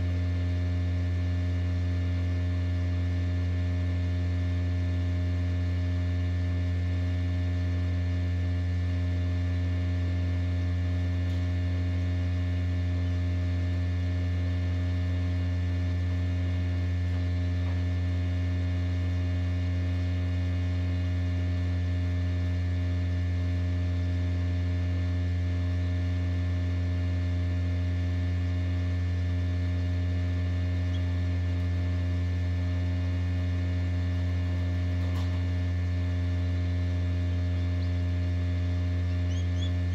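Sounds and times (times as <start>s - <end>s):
incubator electrical hum: 0.0s - 39.9s.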